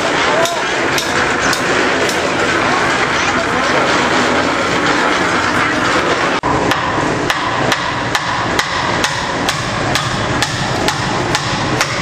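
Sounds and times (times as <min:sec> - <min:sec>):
hammer blows: 0:00.0 - 0:12.0
rushing background noise: 0:00.0 - 0:12.0.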